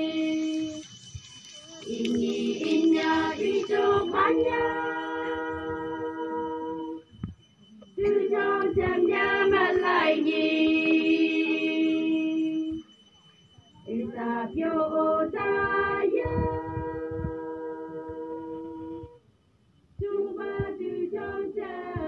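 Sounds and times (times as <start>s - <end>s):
women singing together: 0.0s - 0.9s, 1.8s - 7.1s, 8.0s - 12.8s, 13.9s - 19.2s, 20.0s - 22.0s.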